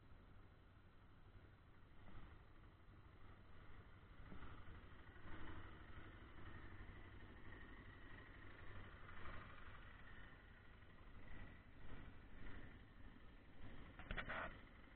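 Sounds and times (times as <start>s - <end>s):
atv engine idling faintly: 0.0s - 14.9s.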